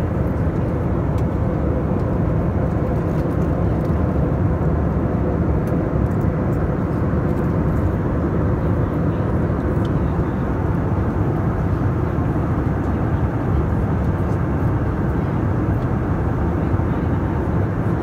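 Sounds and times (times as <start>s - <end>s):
jet airliner cabin noise: 0.0s - 18.0s.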